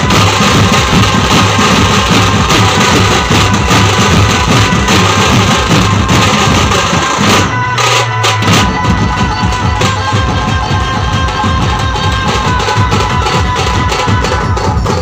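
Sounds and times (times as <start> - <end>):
large drums beaten with sticks: 0.0 - 15.0.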